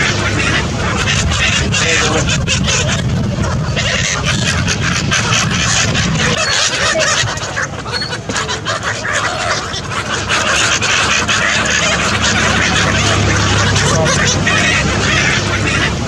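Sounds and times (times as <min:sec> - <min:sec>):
gulls calling: 0:00.0 - 0:16.0
low rumble: 0:00.0 - 0:16.0.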